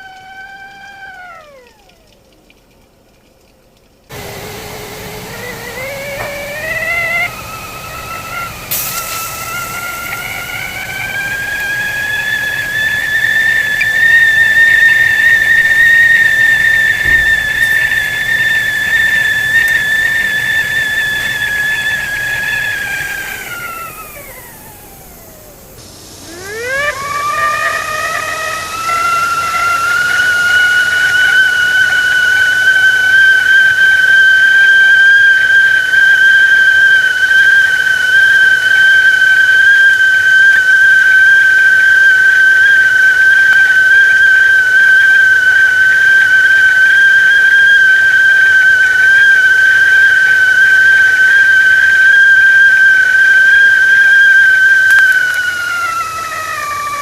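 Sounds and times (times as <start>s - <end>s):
stovetop kettle whistling: 0.0s - 2.7s, 4.1s - 57.0s.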